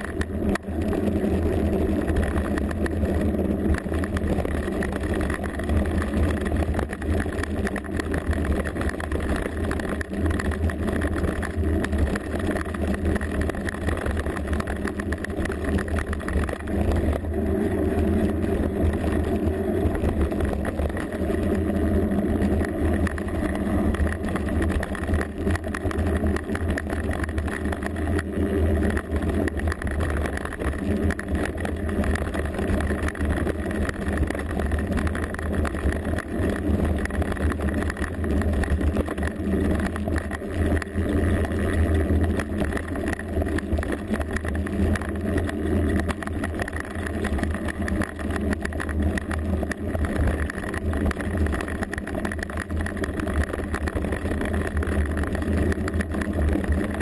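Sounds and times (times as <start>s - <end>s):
steady loud rumble: 0.0s - 57.0s.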